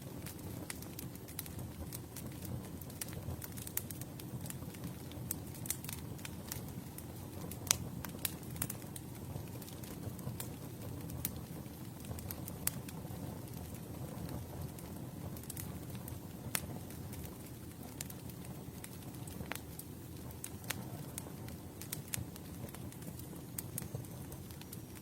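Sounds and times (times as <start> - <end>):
campfire flames rushing: 0.0 - 25.0
wood crackling and popping: 0.0 - 25.0.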